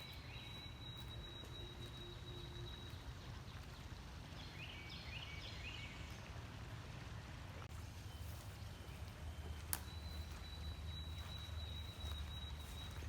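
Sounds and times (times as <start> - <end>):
songbird calls: 0.0 - 6.3, 7.8 - 13.0.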